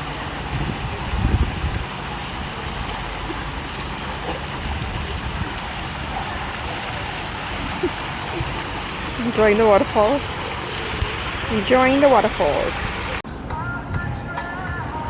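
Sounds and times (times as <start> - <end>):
waterfall splashing into pool: 0.0 - 13.2.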